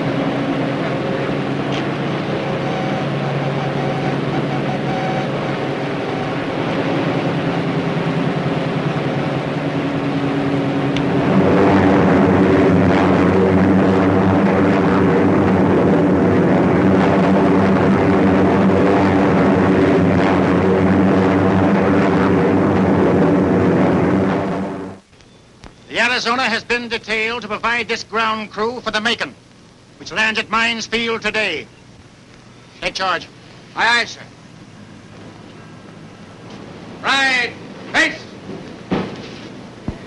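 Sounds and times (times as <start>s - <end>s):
propeller engines droning: 0.0s - 40.0s.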